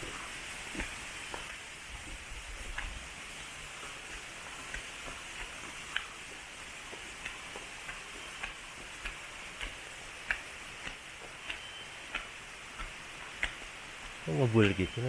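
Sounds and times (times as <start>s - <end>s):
background hiss: 0.0s - 15.0s
footsteps on a trail: 0.0s - 15.0s.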